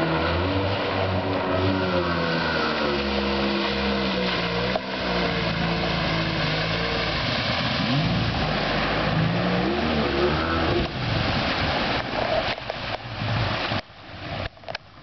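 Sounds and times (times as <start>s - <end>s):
jet ski engine revving: 0.0s - 14.5s.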